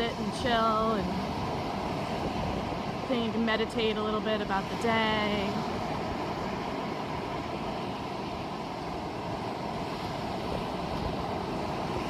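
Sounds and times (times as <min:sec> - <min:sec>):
ocean surf: 0:00.0 - 0:12.0
wind on microphone: 0:00.0 - 0:12.0.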